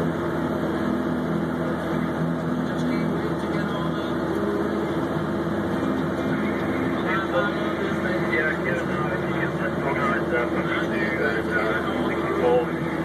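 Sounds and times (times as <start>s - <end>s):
diesel engine droning under load: 0.0s - 13.0s.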